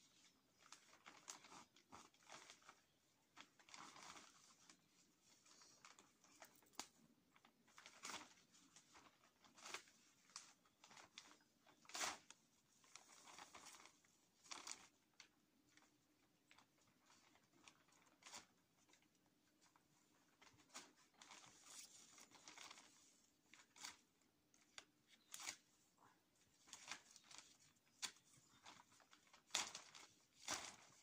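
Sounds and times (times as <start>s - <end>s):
plastic sheeting rustling: 0.0s - 31.0s.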